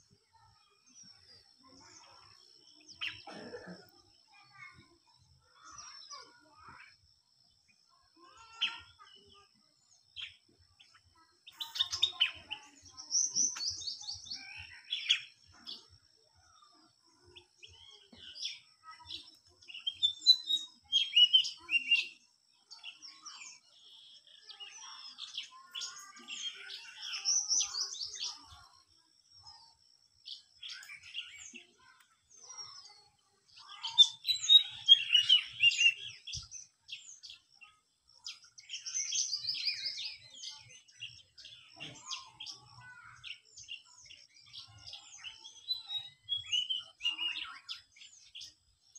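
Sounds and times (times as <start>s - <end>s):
bird chirps: 0.0s - 48.9s.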